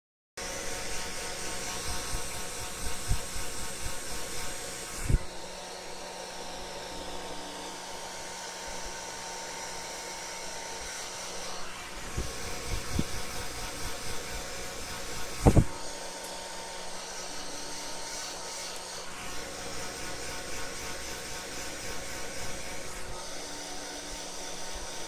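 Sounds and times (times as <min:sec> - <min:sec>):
hair dryer blowing air: 0:00.4 - 0:25.0.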